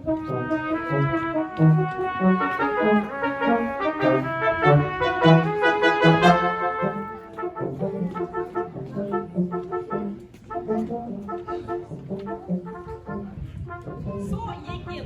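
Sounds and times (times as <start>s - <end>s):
brass quartet playing: 0.0s - 14.3s.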